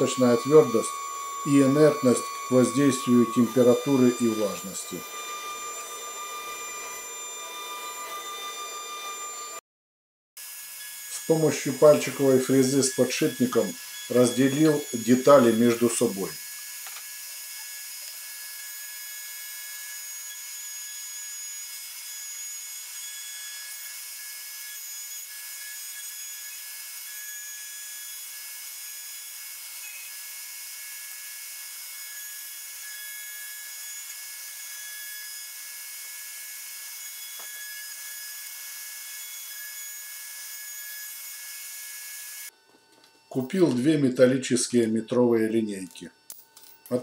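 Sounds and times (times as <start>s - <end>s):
router bit cutting plastic: 0.0s - 9.6s, 10.4s - 42.5s
router motor high-pitched whine: 0.0s - 9.6s, 10.4s - 44.1s.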